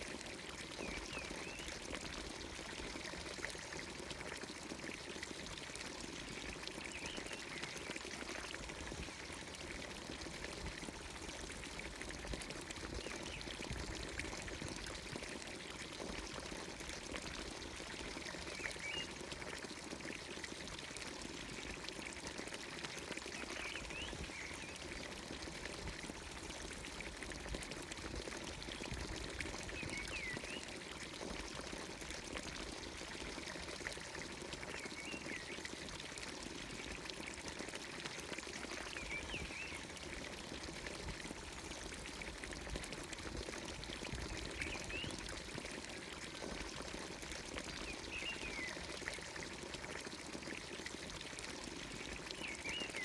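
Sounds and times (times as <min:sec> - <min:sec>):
fountain water pouring into trough: 0:00.0 - 0:53.0.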